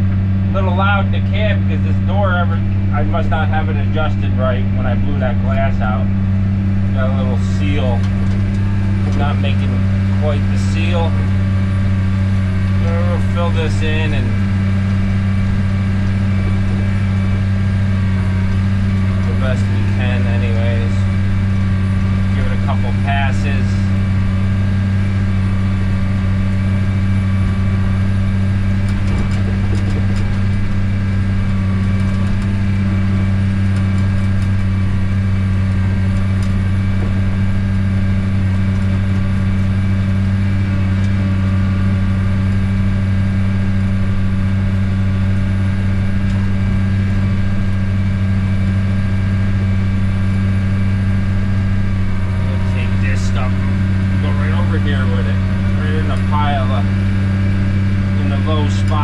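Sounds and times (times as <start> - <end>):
diesel engine drone inside cab: 0.0 - 59.0.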